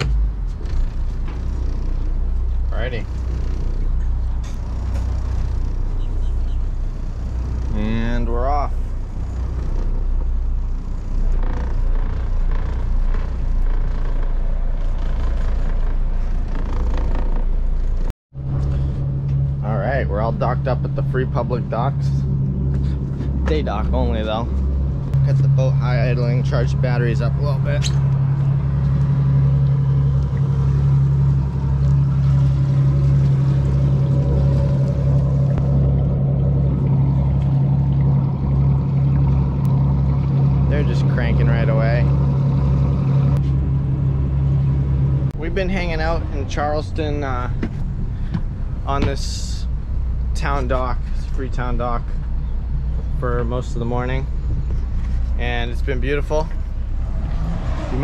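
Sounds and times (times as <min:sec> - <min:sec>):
boat engines low rumble: 0:00.0 - 0:58.0.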